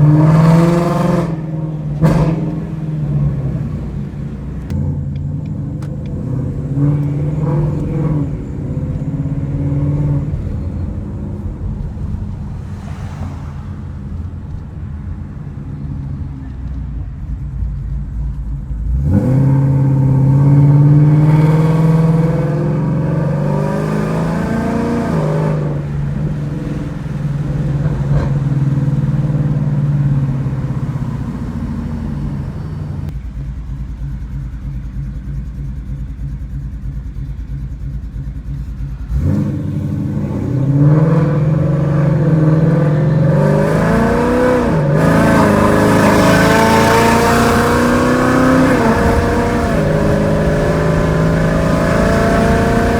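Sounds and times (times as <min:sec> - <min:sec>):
car engine accelerating: 0:00.0 - 0:52.9
engine pulsing rumble: 0:00.0 - 0:52.9.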